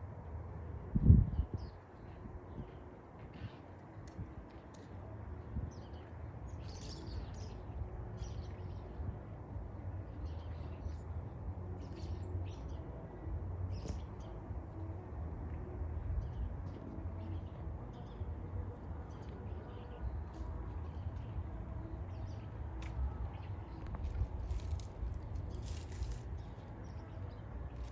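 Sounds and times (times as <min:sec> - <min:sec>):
steady low rumble: 0:00.0 - 0:27.9.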